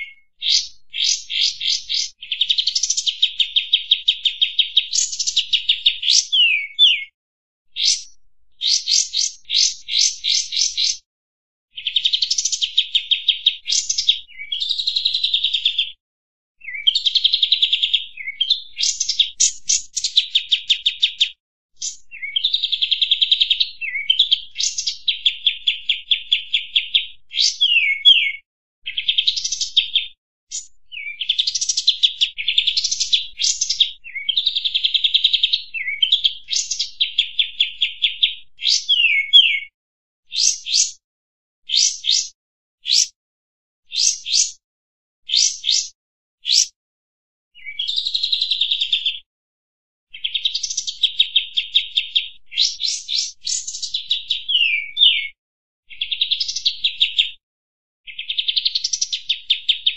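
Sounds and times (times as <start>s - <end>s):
bulbul singing trilled song: 0.0s - 7.2s, 7.8s - 11.0s, 11.7s - 16.0s, 16.6s - 39.7s, 40.3s - 41.0s, 41.7s - 43.2s, 43.9s - 44.6s, 45.3s - 46.8s, 47.6s - 49.0s, 50.1s - 57.2s.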